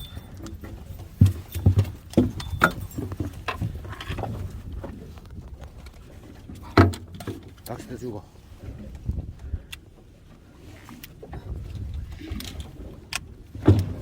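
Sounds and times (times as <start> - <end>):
knocks and thumps on boat: 0.0 - 10.1, 10.8 - 14.0.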